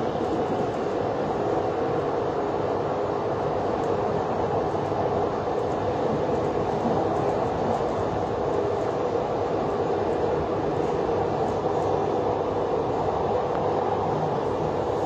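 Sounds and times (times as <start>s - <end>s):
faint steady hum: 0.0s - 15.0s
train wheels rumbling on rail: 0.0s - 15.0s.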